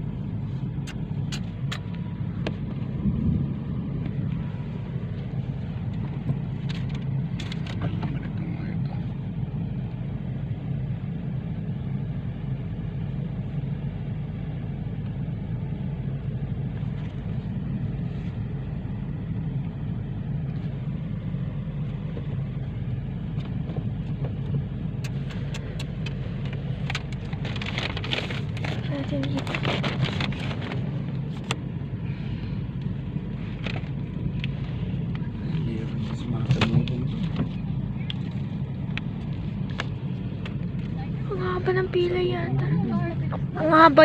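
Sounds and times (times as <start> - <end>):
car cabin road and engine rumble: 0.0 - 44.0.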